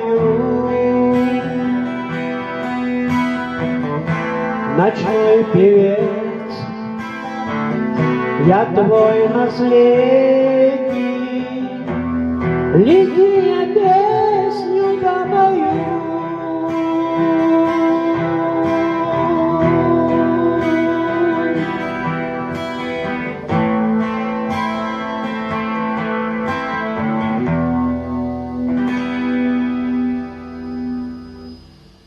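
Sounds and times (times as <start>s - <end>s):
picked guitar notes: 0.0s - 32.0s.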